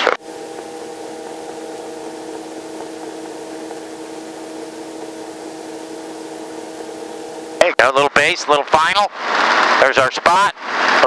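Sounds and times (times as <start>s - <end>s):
helicopter drone: 0.0s - 11.0s.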